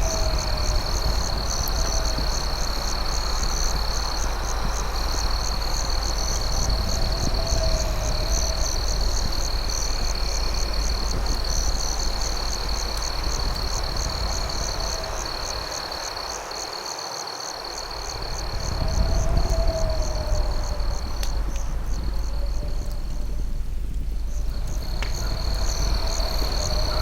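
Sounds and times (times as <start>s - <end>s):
low steady rumble: 0.0s - 16.2s, 17.9s - 27.0s
crickets chirping: 0.0s - 27.0s.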